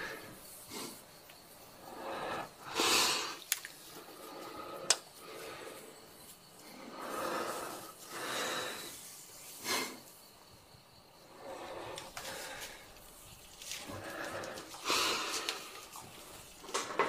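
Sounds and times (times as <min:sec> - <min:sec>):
heavy breathing: 0:00.0 - 0:09.0, 0:11.2 - 0:16.4.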